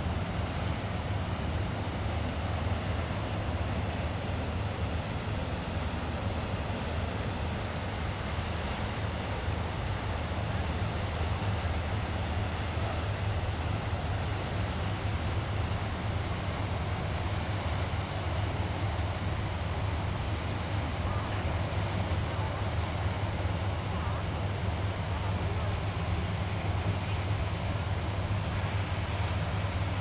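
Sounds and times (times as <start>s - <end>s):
boat diesel engine drone: 0.0s - 30.0s.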